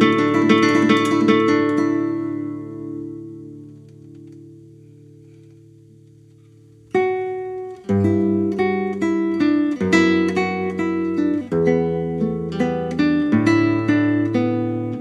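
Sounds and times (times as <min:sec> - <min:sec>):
classical guitar playing: 0:00.0 - 0:15.0.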